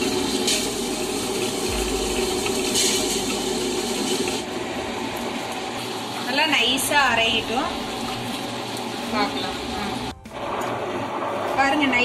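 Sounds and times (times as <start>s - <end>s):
wet grinder sloshing and grinding: 0.0s - 11.8s.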